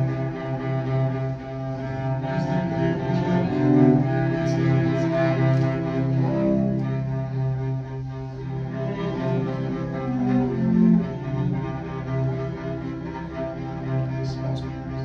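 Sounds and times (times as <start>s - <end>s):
cello bowing sustained notes: 0.0s - 15.0s.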